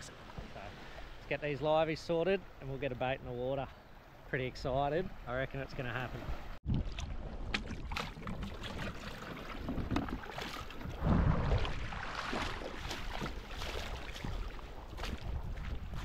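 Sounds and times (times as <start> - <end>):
water splashing and sloshing: 0.0 - 2.8, 3.8 - 16.0.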